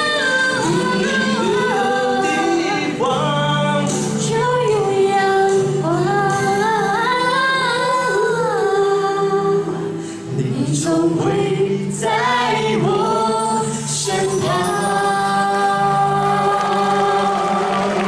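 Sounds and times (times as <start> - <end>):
woman singing slow melody: 0.0 - 3.1, 3.8 - 17.9.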